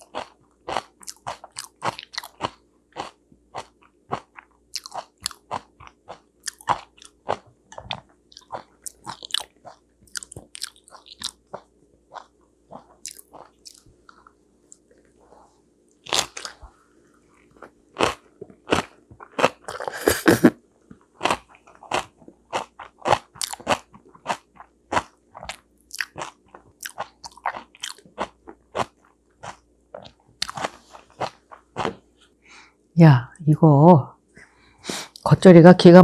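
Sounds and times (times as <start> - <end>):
crisp crunching and chewing: 0.0 - 15.2, 15.9 - 16.7, 17.4 - 20.0, 20.9 - 32.0.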